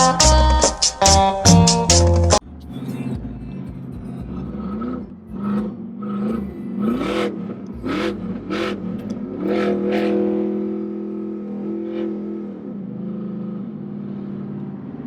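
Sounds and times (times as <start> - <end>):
pickup truck engine revving: 1.5 - 15.0.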